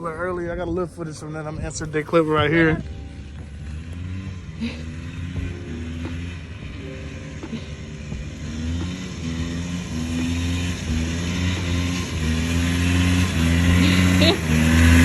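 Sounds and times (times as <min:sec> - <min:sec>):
car engine revving: 0:01.7 - 0:15.0.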